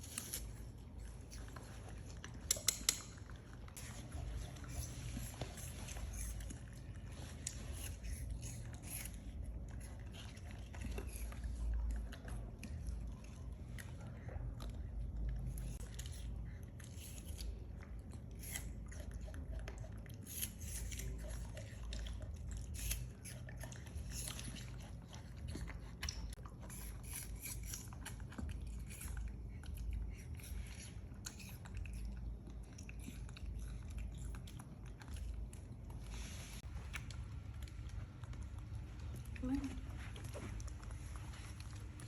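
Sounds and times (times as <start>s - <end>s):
chewing and crunching: 0.0s - 42.0s.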